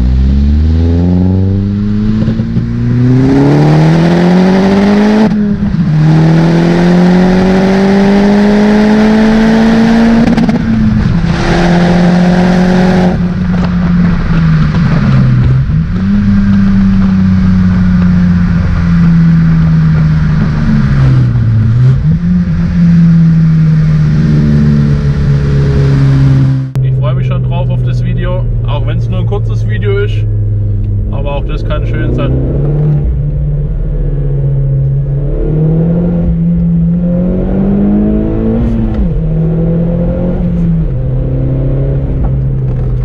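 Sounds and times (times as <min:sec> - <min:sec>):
car engine revving in cabin: 0:00.0 - 0:43.0.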